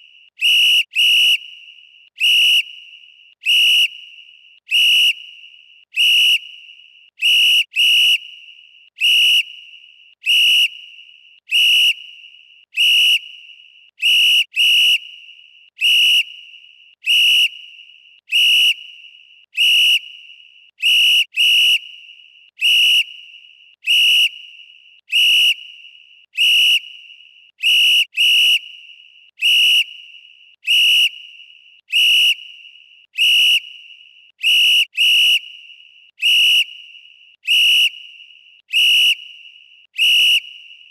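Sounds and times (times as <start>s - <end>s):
referee whistle blasts: 0.4s - 9.7s, 15.8s - 40.9s.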